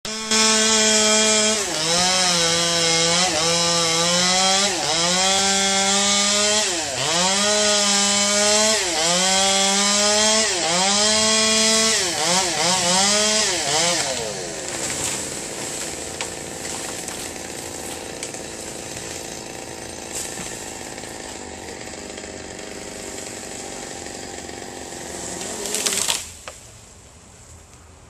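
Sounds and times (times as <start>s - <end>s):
chainsaw cutting wood: 0.1s - 26.6s.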